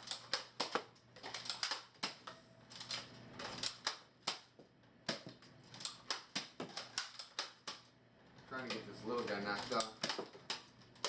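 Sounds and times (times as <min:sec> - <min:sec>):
sharp plastic clicks and clacks: 0:00.0 - 0:11.0.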